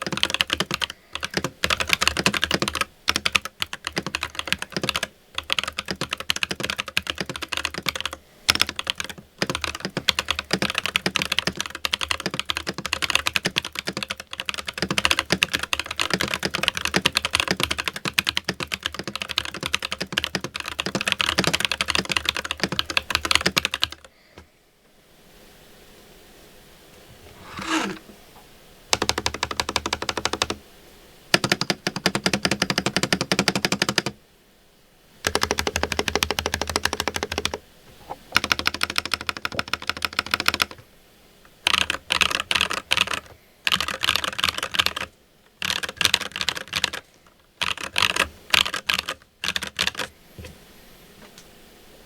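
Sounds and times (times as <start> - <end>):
fast typing on mechanical keyboard: 0.0 - 24.1, 28.9 - 30.6, 31.3 - 34.2, 35.2 - 37.6, 38.4 - 40.8, 41.6 - 50.1.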